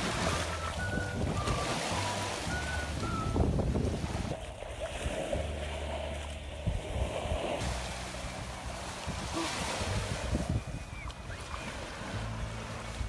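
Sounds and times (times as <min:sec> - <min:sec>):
small waves washing on sand: 0:00.0 - 0:13.0
wind rumbling on microphone: 0:00.0 - 0:13.0.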